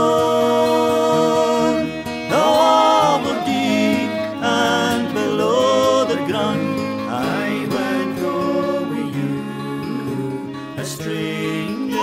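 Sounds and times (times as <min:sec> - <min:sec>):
folk ballad with plucked strings: 0:00.0 - 0:12.0.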